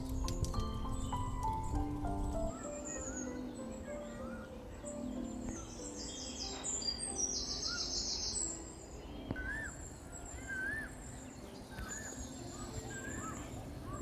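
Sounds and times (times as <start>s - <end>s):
birds chirping trills: 0.0s - 14.0s
whistled bird notes: 0.0s - 14.0s.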